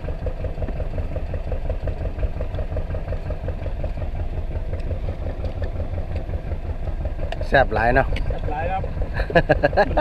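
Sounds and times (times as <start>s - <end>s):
boat engine knocking rumble: 0.0s - 10.0s.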